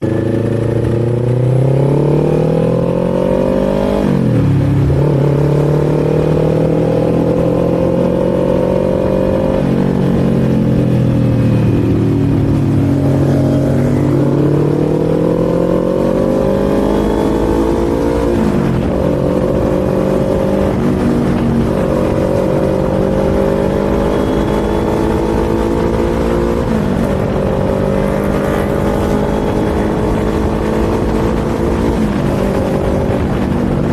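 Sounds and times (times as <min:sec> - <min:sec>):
motorcycle engine accelerating: 0:00.0 - 0:33.9
wind rumble: 0:00.0 - 0:33.9.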